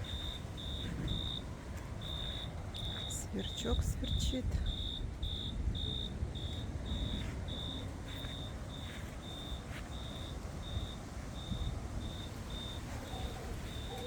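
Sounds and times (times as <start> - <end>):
cricket chirping: 0.0 - 3.1, 4.7 - 14.0
wind rumble on microphone: 0.0 - 14.0.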